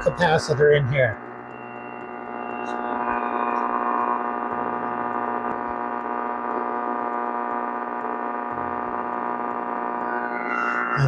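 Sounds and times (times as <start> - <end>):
buzzy test tone from radio speaker: 0.0 - 11.0.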